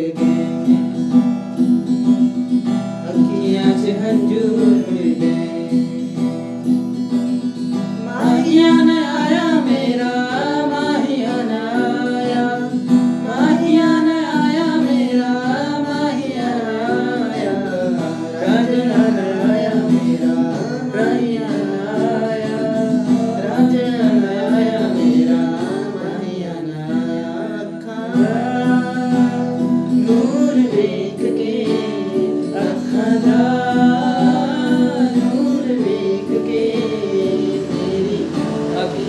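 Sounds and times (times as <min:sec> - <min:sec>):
young men singing together: 0:00.0 - 0:01.3, 0:03.0 - 0:06.7, 0:07.9 - 0:39.0
acoustic guitar: 0:00.0 - 0:39.0.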